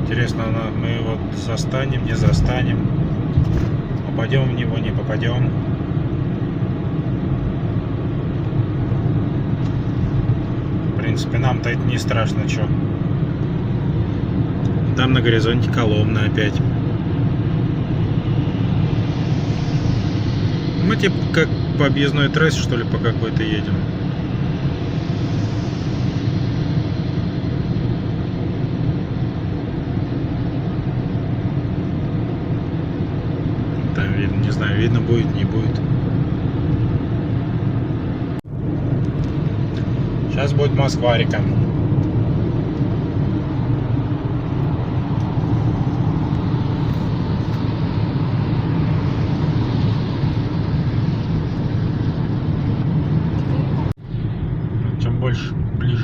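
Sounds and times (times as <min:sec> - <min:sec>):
car cabin engine rumble: 0:00.0 - 0:56.0.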